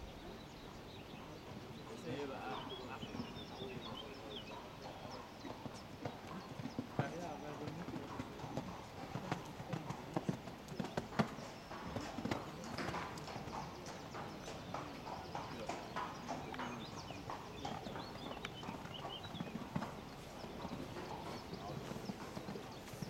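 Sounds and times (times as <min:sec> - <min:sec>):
hooves cantering on sand: 0:00.0 - 0:23.0.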